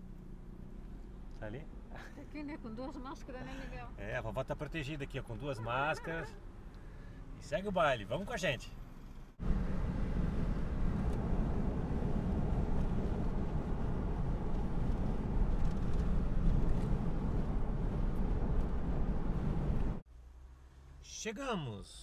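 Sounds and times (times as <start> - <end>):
road and wind noise in car: 0.0 - 22.0.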